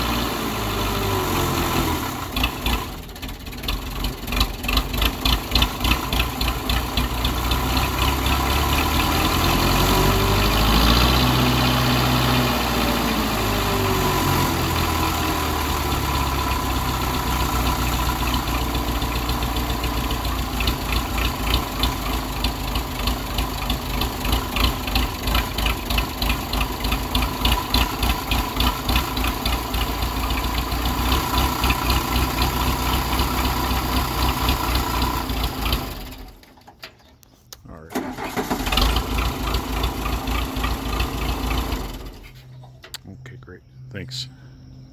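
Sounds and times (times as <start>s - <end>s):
dozer engine idling: 0.0s - 44.9s.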